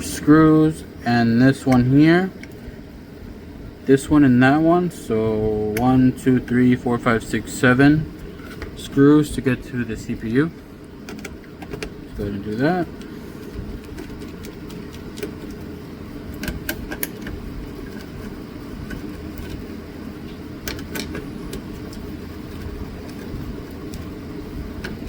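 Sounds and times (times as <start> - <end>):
low background rumble: 0.0 - 25.0.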